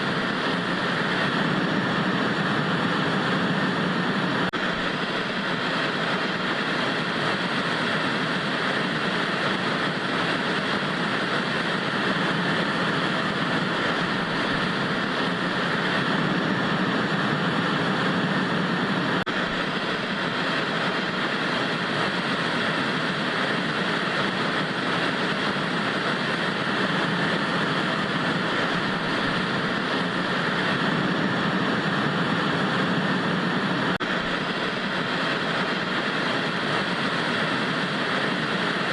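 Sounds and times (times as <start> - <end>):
tv static hiss: 0.0 - 38.9.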